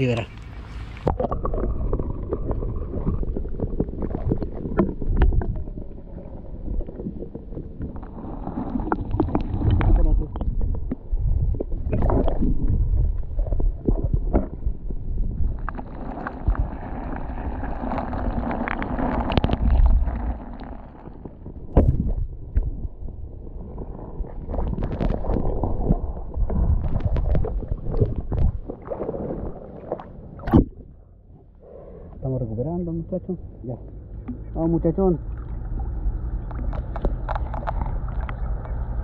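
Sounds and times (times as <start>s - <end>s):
muffled underwater river sloshing: 0.0s - 32.2s, 33.3s - 39.0s.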